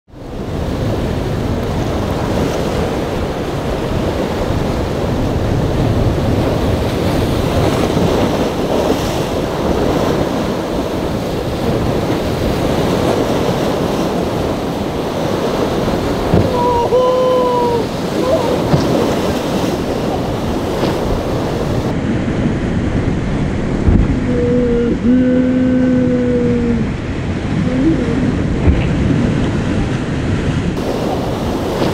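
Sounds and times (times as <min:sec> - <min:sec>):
choppy surf: 0:00.1 - 0:31.9
wind on microphone: 0:00.1 - 0:31.9.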